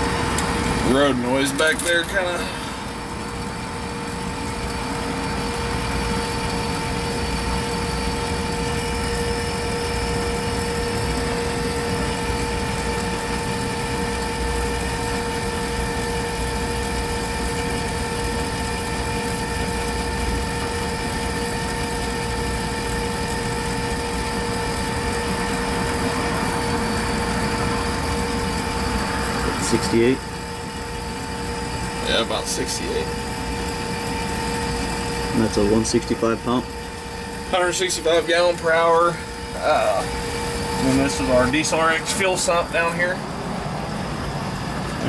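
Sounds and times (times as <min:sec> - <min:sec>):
electric pump motor humming: 0:00.0 - 0:45.0.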